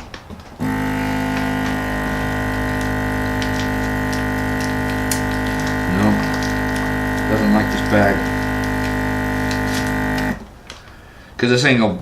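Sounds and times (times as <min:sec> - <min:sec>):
vacuum sealer pump humming: 0:00.6 - 0:10.8.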